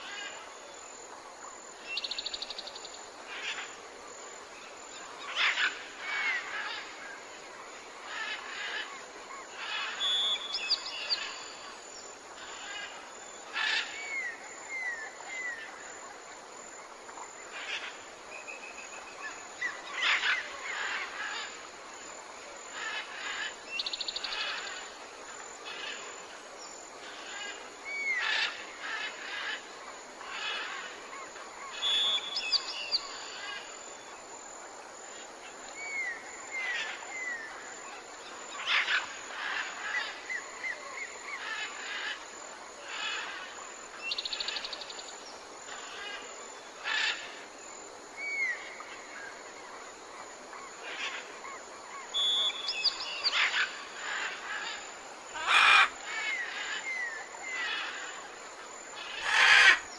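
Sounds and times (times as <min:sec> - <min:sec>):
steady background hiss: 0:00.0 - 0:59.9
wild birds chirping and singing: 0:00.0 - 0:59.9.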